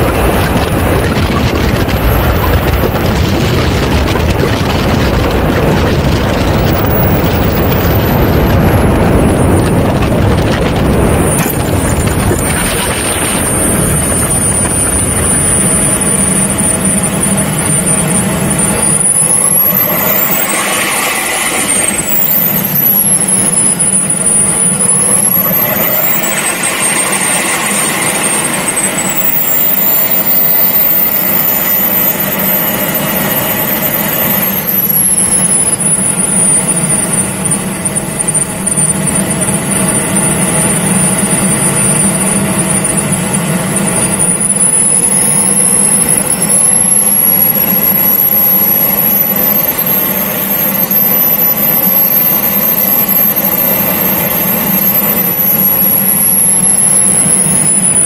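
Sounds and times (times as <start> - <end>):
model jet engines whining: 0.0 - 58.0
wheels rumbling on asphalt: 0.0 - 58.0.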